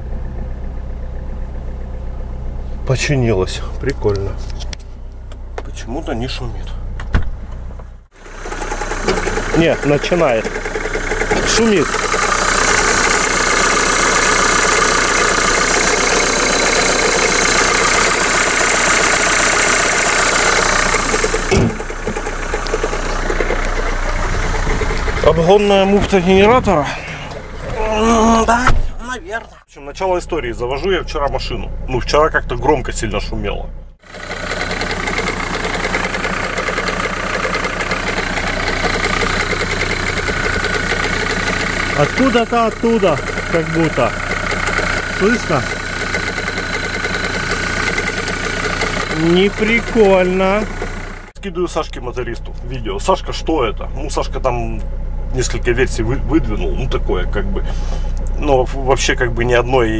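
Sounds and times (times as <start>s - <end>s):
engine idling with rattling knock: 0.2s - 27.8s, 33.9s - 59.9s.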